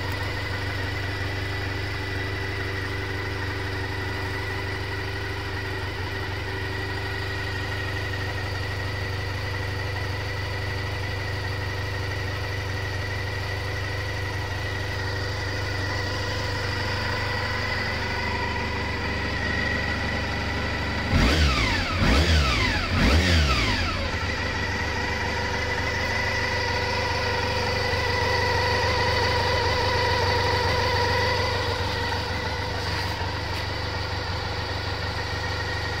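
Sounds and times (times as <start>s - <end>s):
engine throttle blips: 0.0s - 36.0s
motorcycle engine idling: 0.0s - 36.0s.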